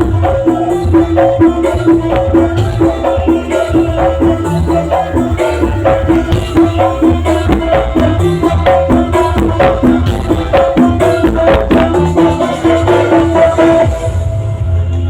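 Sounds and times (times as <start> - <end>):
hand-drum percussion: 0.0 - 15.0
loud music with heavy bass: 0.0 - 15.0.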